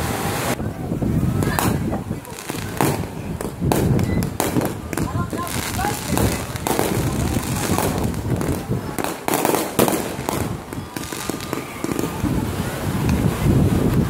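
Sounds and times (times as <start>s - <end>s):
fireworks bangs and crackles: 1.0s - 14.0s.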